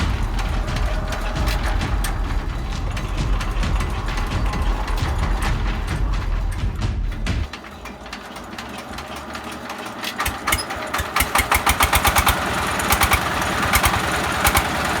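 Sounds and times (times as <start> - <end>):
small diesel engine starting: 0.0 - 15.0.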